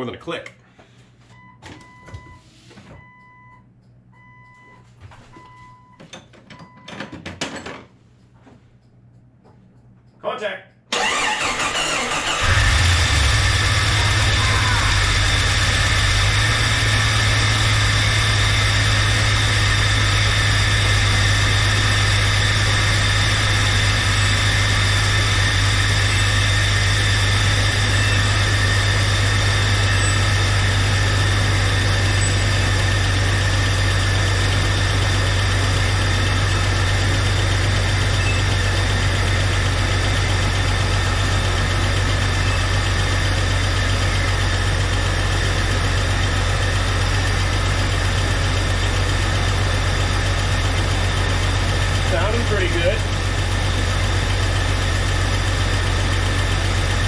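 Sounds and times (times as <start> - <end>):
car engine idling: 11.0 - 57.0.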